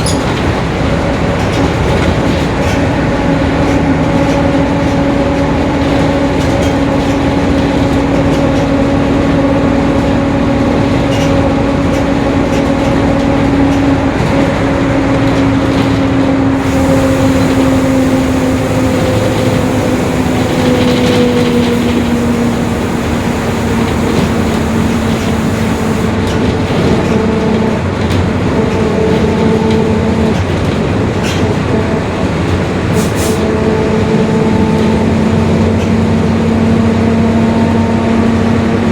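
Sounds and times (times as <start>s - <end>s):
bus differential whining: 0.0s - 38.9s
road rumble: 0.0s - 38.9s.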